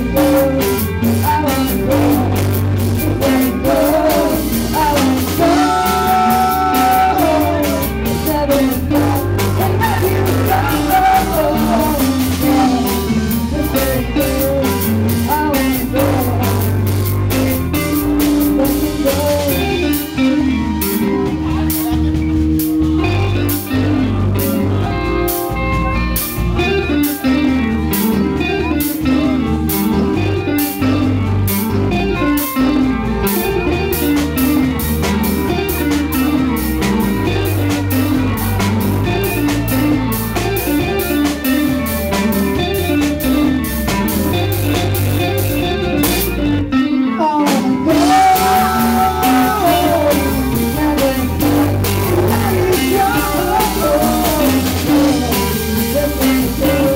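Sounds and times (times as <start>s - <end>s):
drum kit beat: 0.0s - 46.6s, 47.5s - 56.9s
bass guitar: 0.0s - 56.9s
electric guitar riff: 0.0s - 56.9s.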